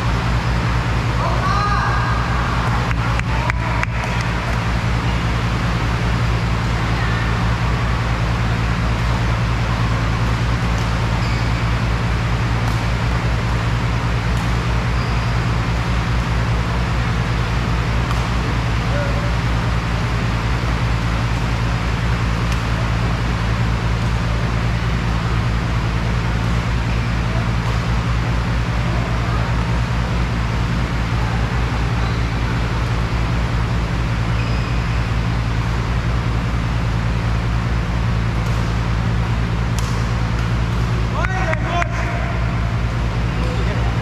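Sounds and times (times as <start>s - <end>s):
loud mechanical hum: 0.0s - 44.0s.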